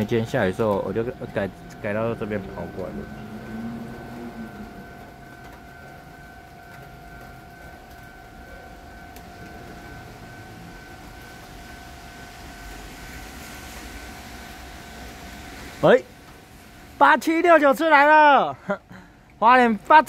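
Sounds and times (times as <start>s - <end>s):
level crossing alarm tone: 0.0s - 18.4s.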